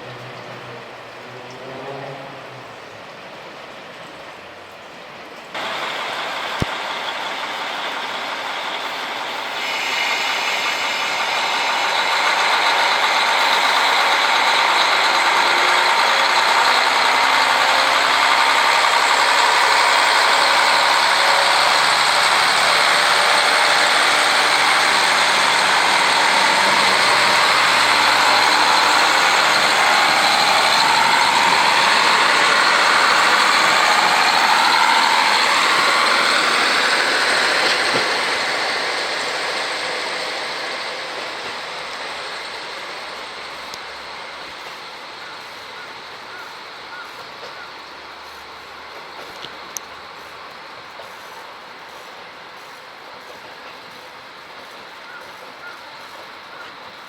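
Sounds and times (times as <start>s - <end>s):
diesel train engine running: 5.6s - 57.0s.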